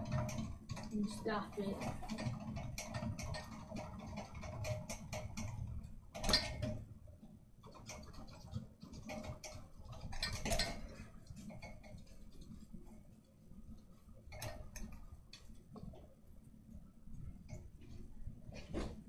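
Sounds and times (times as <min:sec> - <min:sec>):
light ticking and clicking: 0:00.0 - 0:18.4.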